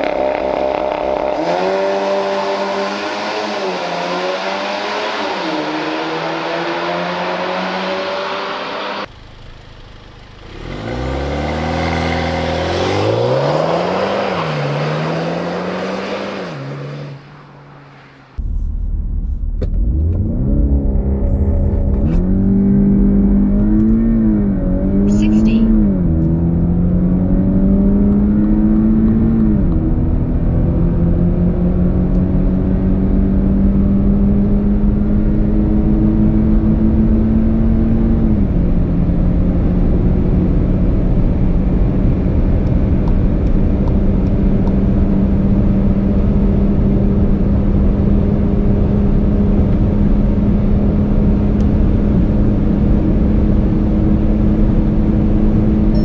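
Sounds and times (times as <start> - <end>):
car engine at full throttle: 0.0 - 56.0
road and wind noise: 0.0 - 56.0.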